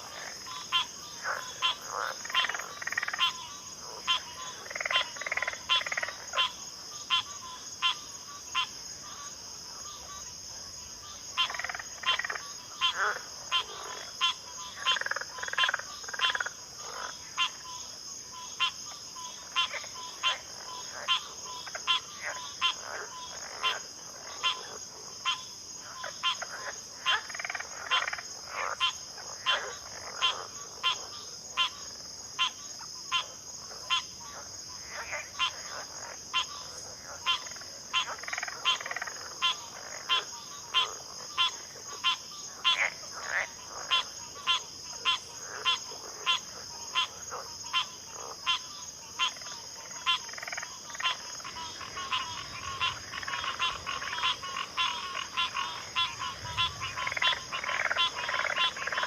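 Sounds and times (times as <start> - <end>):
frogs calling: 0.0 - 59.0.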